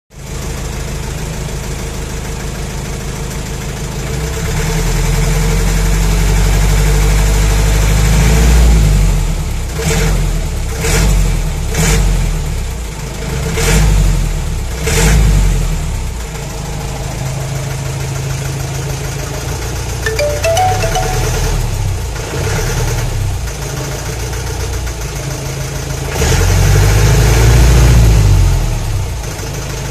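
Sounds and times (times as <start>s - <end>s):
diesel engine idling and revving: 0.2s - 19.9s, 24.5s - 29.9s.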